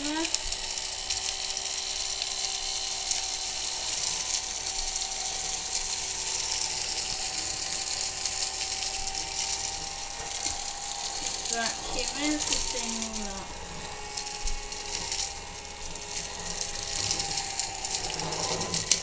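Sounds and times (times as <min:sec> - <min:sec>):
mini vacuum cleaner running: 0:00.0 - 0:19.0
particles ticking in fan: 0:00.0 - 0:19.0.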